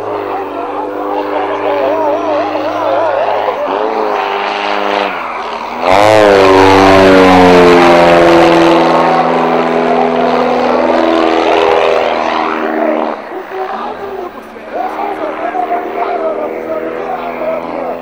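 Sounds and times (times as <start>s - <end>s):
propeller plane engine running: 0.0s - 18.0s.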